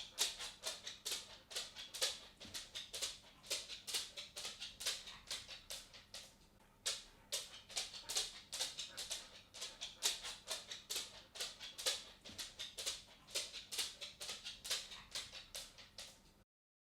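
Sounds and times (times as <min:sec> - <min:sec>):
dog claws clicking on wooden floor: 0:00.0 - 0:16.3.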